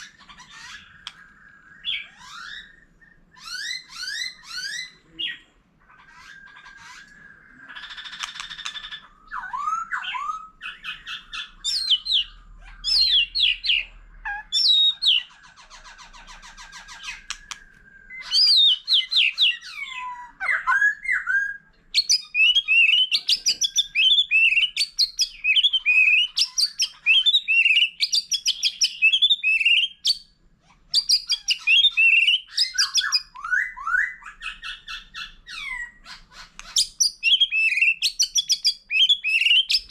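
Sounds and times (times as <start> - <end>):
bird singing whistled song: 0.0 - 36.0, 36.6 - 39.9.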